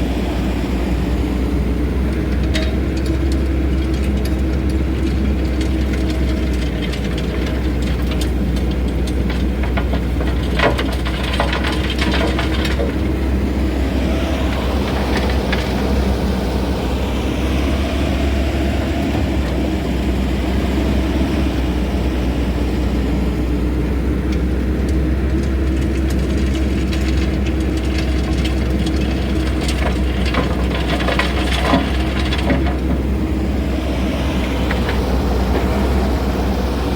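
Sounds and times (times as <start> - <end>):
excavator engine and hydraulics: 0.0 - 36.9.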